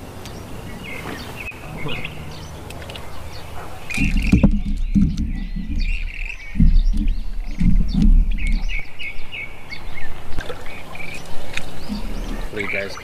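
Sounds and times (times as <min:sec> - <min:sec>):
low rumbling bursts: 0:00.0 - 0:10.8, 0:11.4 - 0:13.0
songbirds chirping: 0:00.0 - 0:13.0.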